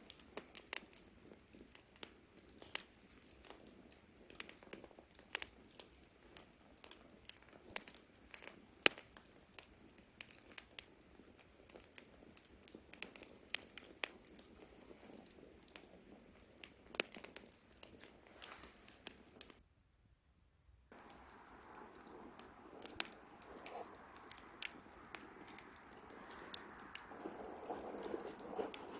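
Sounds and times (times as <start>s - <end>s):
campfire crackling and popping: 0.0s - 19.6s, 20.9s - 28.9s.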